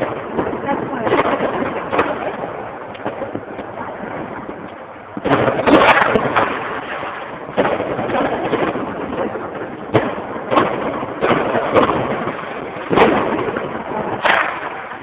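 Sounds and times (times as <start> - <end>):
constant rushing noise: 0.0 - 15.0
fireworks bangs and crackles: 0.0 - 15.0.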